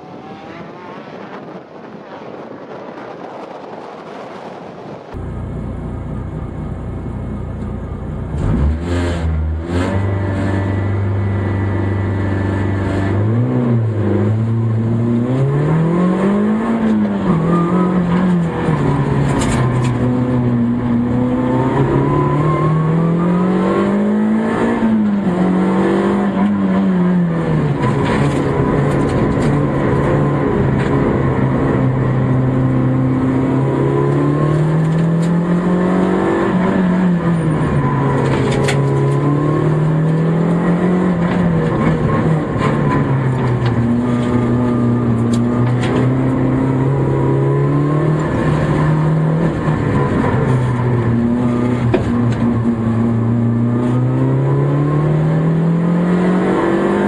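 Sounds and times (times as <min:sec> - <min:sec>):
rally car engine revving: 0:05.2 - 0:57.0.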